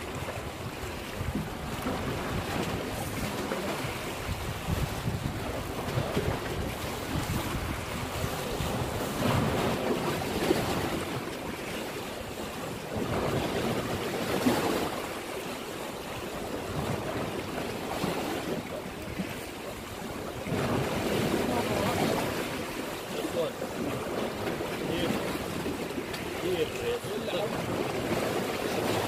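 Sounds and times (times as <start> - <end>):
wind buffeting microphone: 0.0 - 15.4, 16.0 - 29.0
waves washing against rocks: 0.0 - 29.0.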